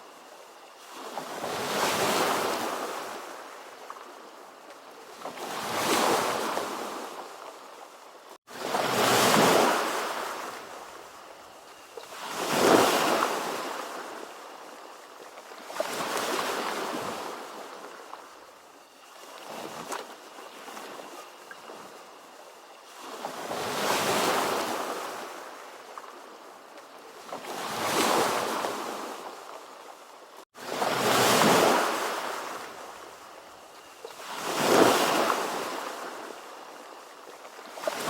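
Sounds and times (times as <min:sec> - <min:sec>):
ocean waves breaking on shore: 0:00.0 - 0:38.0.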